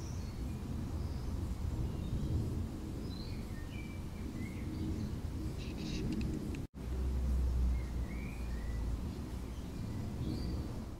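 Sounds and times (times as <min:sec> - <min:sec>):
small birds chirping: 0:00.0 - 0:06.6, 0:07.3 - 0:10.9
low outdoor rumble: 0:00.0 - 0:10.9.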